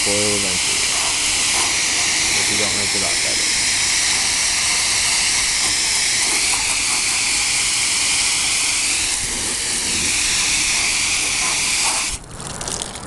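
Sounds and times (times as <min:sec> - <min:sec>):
water spray hissing: 0:00.0 - 0:12.2.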